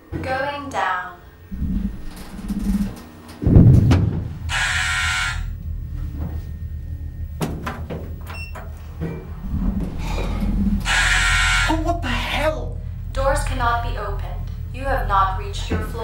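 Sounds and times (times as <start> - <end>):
steady low hum: 0.0 - 16.0
heavy low thud: 1.5 - 11.5, 12.6 - 16.0.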